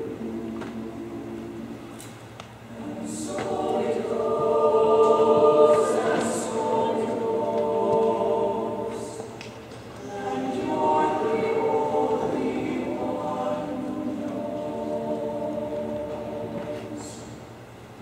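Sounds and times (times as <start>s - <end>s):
choir singing unaccompanied: 0.0s - 17.7s.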